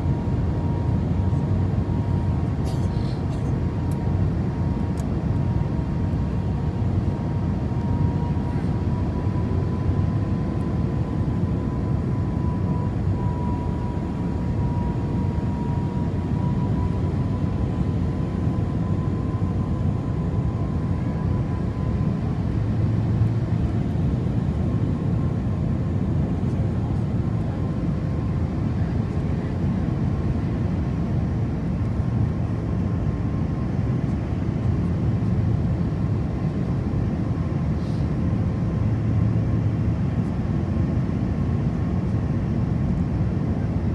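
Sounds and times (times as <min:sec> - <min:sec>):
thin steady whine: 0:00.0 - 0:43.9.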